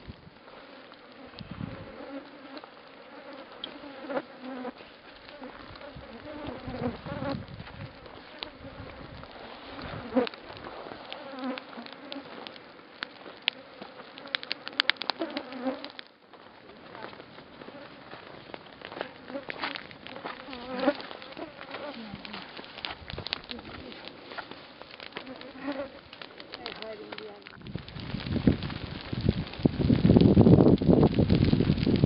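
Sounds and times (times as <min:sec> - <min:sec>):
flies buzzing: 0:00.4 - 0:27.6.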